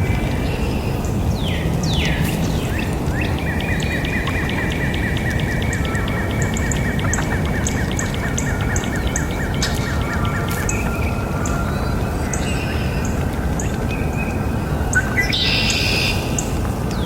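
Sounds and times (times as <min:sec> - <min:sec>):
low background noise: 0:00.0 - 0:17.0
birds calling: 0:00.2 - 0:17.0.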